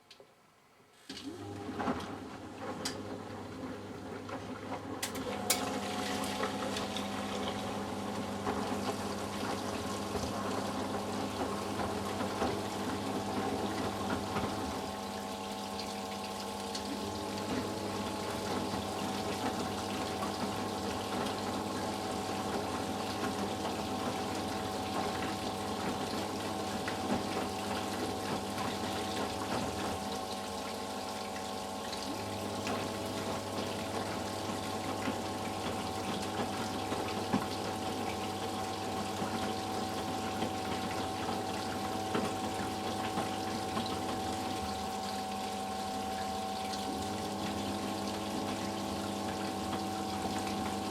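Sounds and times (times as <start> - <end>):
pump motor hum: 0.0 - 50.9
water splashing in washing machine: 1.1 - 50.9.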